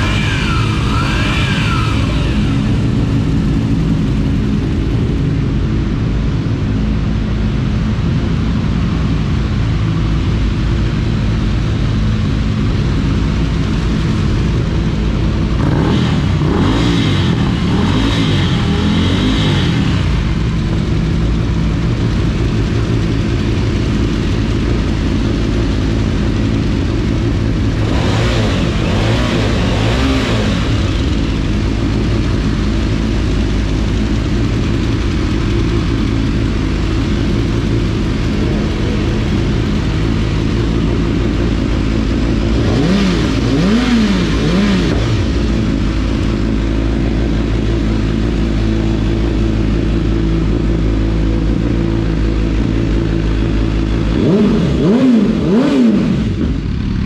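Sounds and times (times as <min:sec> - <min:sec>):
motorcycle engine revving: 0:00.0 - 0:08.0, 0:08.7 - 0:57.0
motorcycle engines idling: 0:00.0 - 0:57.0.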